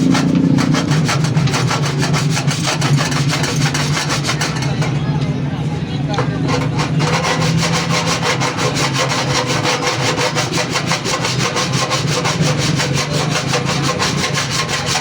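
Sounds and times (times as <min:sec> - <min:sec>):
rapid rasping strokes: 0:00.0 - 0:05.0, 0:06.2 - 0:15.0.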